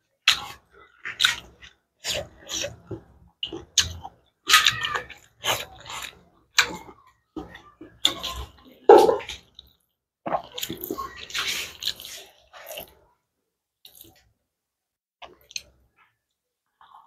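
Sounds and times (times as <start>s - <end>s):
hand squishing wet food: 0.0s - 14.4s.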